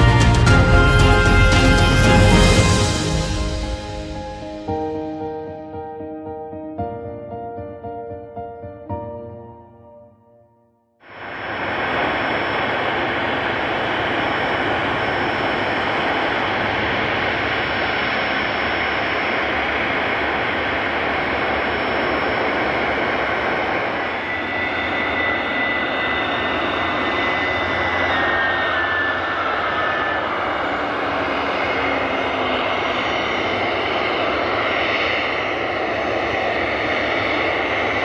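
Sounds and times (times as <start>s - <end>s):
jet engines rushing and whining: 0.0s - 6.1s, 11.0s - 38.0s
lower jet whine: 0.0s - 9.5s, 11.0s - 38.0s.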